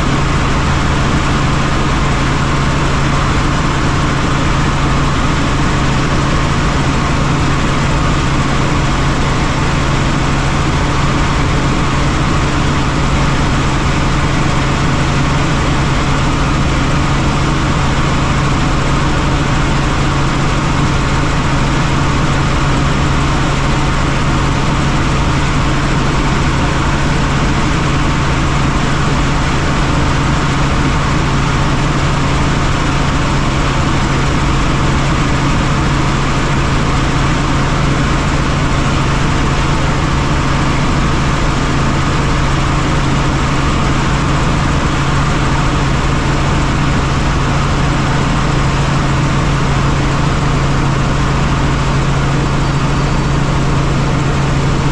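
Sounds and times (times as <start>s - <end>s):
helicopter engine and rotor drone: 0.0s - 54.9s.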